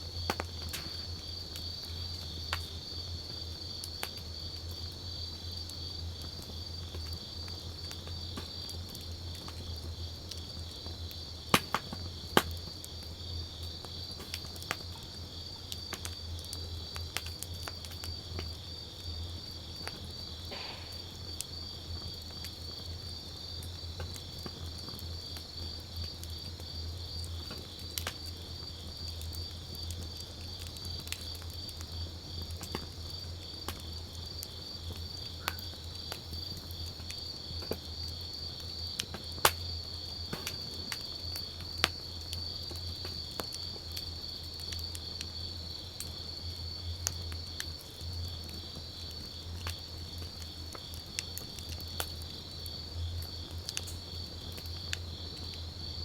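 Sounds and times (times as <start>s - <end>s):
campfire crackling and popping: 0.0s - 56.0s
crickets chirping: 0.0s - 56.0s.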